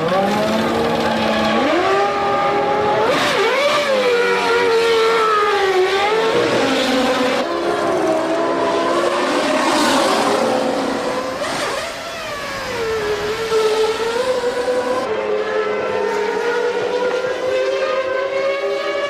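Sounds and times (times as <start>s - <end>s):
race car engines at high revs: 0.0s - 19.0s.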